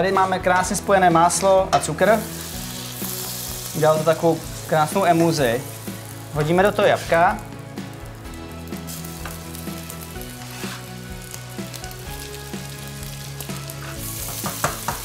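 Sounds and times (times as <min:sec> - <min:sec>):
butter and sugar sizzling: 0:01.8 - 0:15.0.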